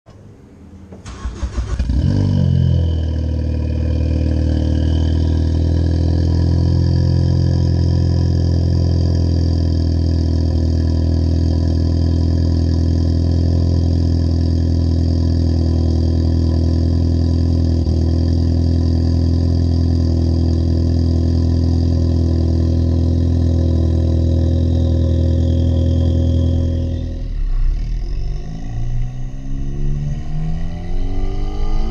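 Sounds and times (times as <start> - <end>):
car engine starting and idling: 0.1 - 31.9.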